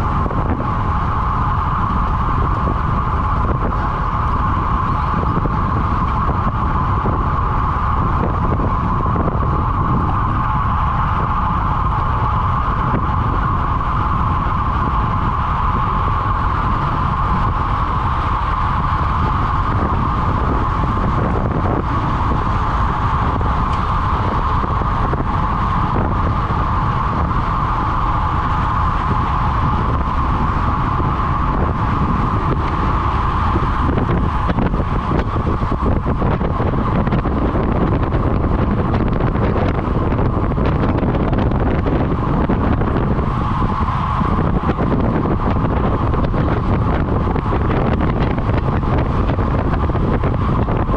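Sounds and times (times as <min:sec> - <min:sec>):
mid-pitched hum: 0:00.0 - 0:50.9
road rumble from bike: 0:00.0 - 0:50.9
wind rush on microphone: 0:00.0 - 0:50.9.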